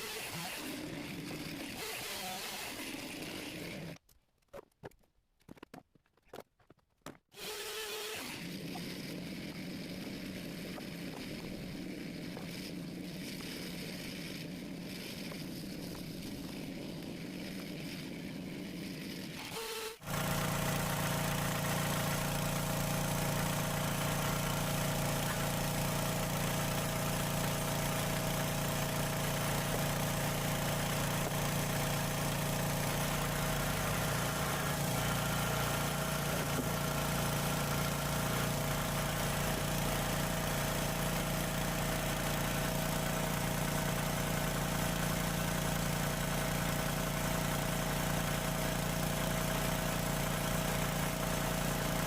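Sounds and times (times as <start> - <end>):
engine running steadily: 8.2 - 52.0.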